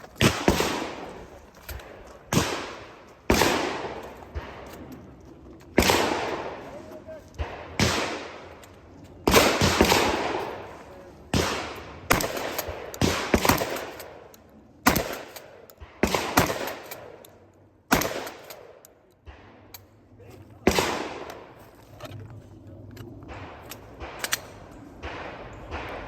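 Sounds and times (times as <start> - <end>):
shotgun blasts with long echo: 0.1 - 4.9, 5.7 - 8.6, 9.2 - 17.2, 17.9 - 19.7, 20.6 - 21.6, 23.2 - 26.0.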